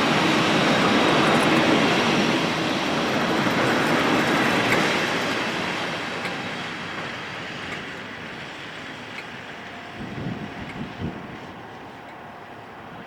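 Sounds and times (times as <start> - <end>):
train rolling on rails: 0.0 - 13.0.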